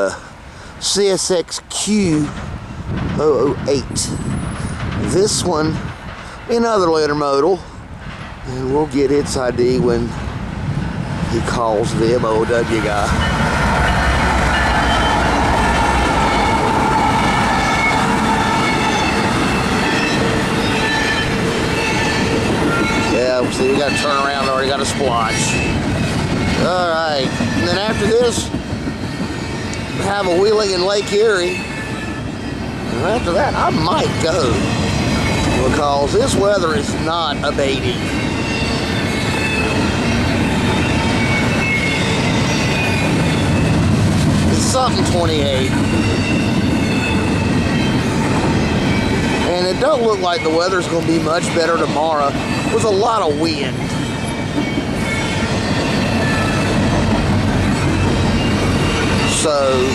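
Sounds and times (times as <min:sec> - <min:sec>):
train wheels rumbling on rails: 0:00.0 - 0:59.9
wheel squeals: 0:02.1 - 0:06.5, 0:12.7 - 0:59.9.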